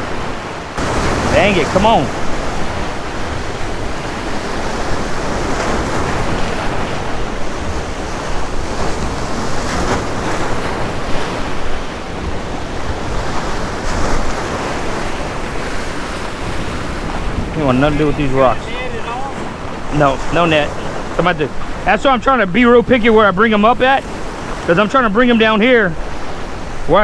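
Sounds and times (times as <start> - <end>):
wind on microphone: 0.0 - 22.0
surf breaking over rocks: 0.0 - 27.0.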